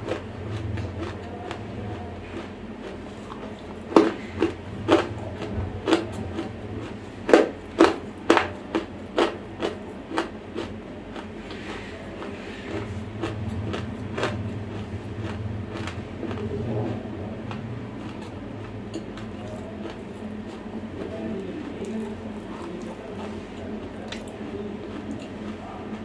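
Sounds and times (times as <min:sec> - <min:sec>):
dry crunchy chewing: 0:00.0 - 0:26.0.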